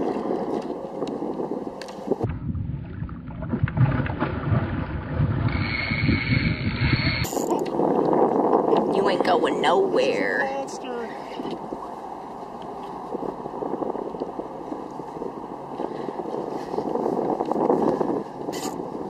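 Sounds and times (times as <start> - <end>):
heavy low rumble: 0.0 - 19.0
wind: 0.0 - 19.0.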